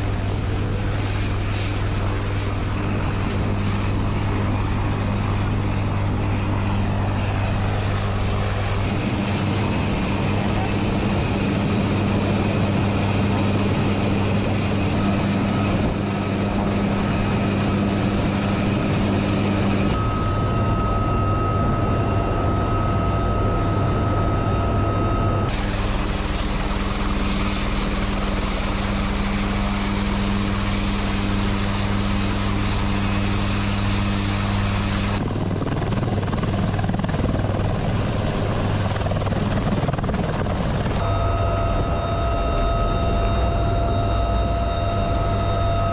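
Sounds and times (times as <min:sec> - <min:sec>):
helicopter rotor drone: 0:00.0 - 0:45.9
high turbine whine: 0:00.0 - 0:45.9.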